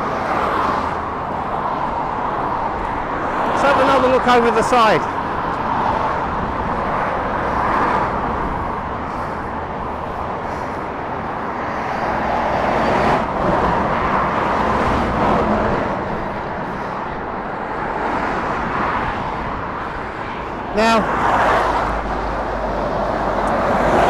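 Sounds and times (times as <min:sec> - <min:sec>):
trucks and cars passing: 0:00.0 - 0:24.0.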